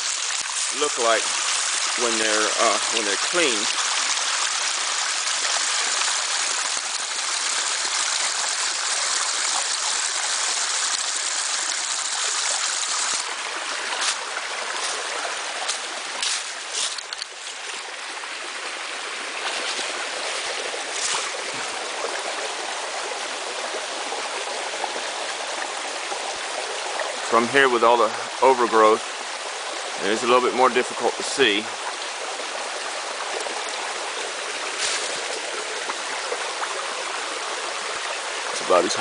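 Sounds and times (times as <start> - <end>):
creek water running over rocks: 0.0 - 39.0.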